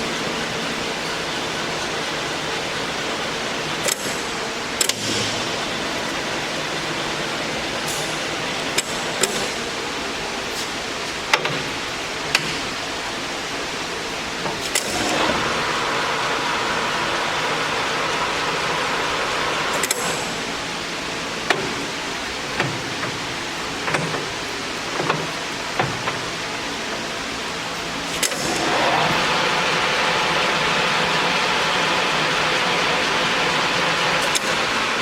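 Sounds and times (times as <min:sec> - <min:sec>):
lathe running: 0:00.0 - 0:35.0.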